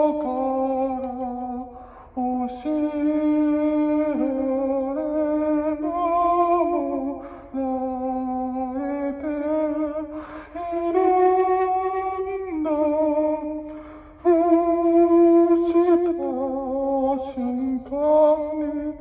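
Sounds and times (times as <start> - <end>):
man singing into microphone: 0.0 - 19.0.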